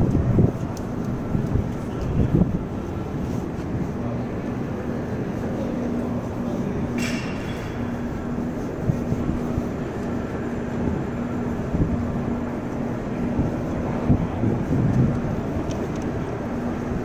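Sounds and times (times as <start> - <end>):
low hum: 0.0 - 17.0
low rumble of traffic: 0.0 - 17.0.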